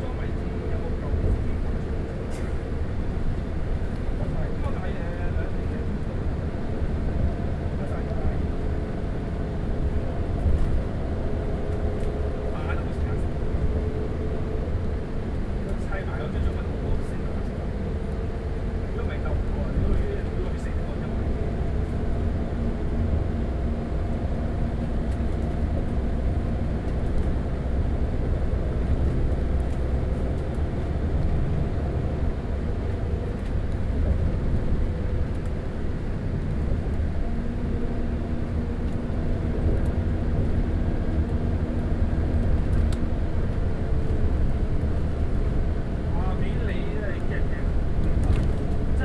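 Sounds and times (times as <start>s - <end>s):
bus diesel engine drone: 0.0s - 49.0s.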